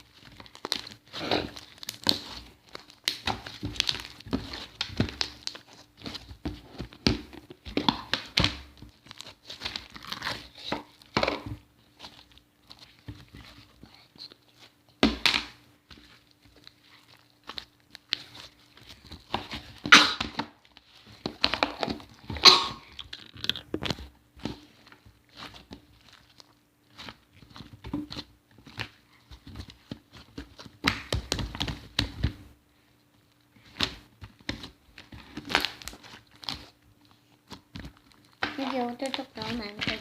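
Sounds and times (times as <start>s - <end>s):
slime squishing and popping: 0.0s - 32.5s, 33.4s - 40.0s.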